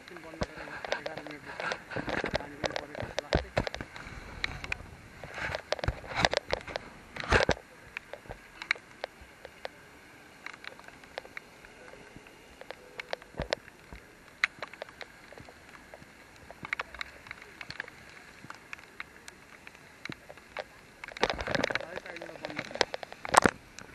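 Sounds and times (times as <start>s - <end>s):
faint steady hiss: 0.0s - 23.9s
raindrops tapping and dripping: 0.0s - 23.9s.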